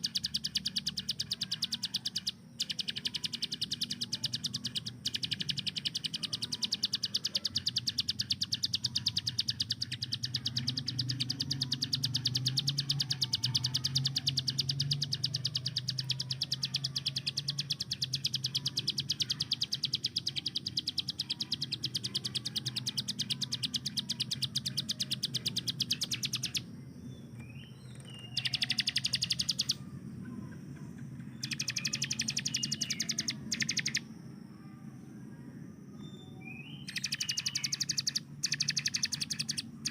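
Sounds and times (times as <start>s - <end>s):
bird rattling trill: 0.0s - 26.6s, 28.3s - 29.8s, 31.4s - 34.0s, 36.9s - 39.9s.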